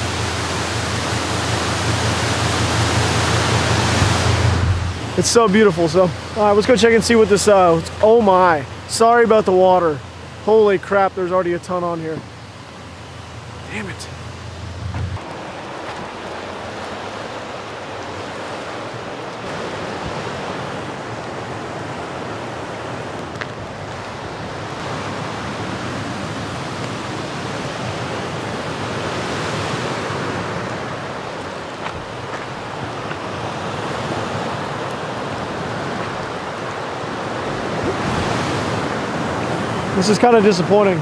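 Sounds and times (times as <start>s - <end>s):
fast-flowing river rushing: 0.0s - 41.0s.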